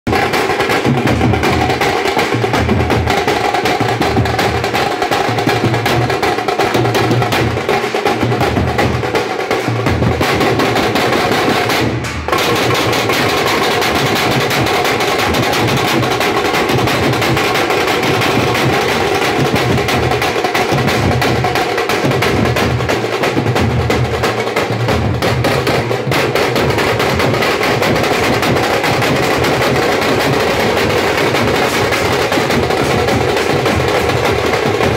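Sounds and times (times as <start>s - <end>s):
drum band beating drums: 0.1s - 34.9s.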